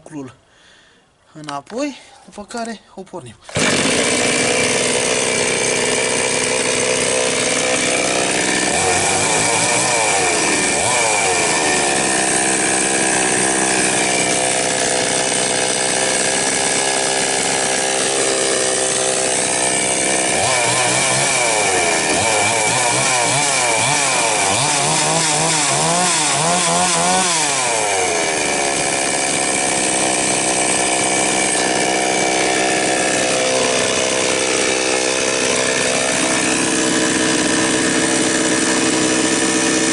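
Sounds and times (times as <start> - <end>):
chainsaw idling and revving: 3.5 - 39.9.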